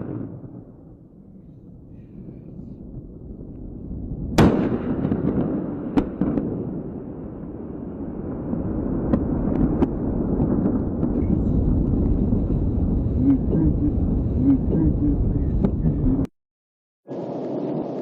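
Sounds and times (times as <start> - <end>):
rocket rumble: 0.0 - 16.3.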